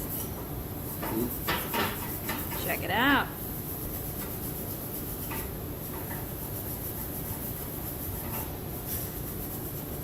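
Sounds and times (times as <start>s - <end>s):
scrubbing metal weld: 0.9s - 9.8s.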